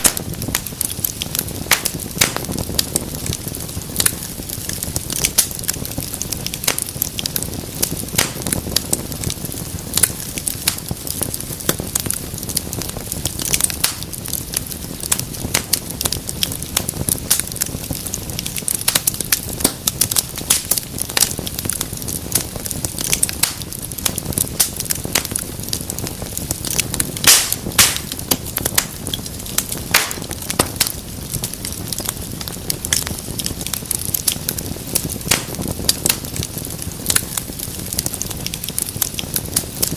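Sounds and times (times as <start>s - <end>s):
low rush of flames: 0.0s - 39.9s
wood fire crackling and popping: 0.0s - 39.9s.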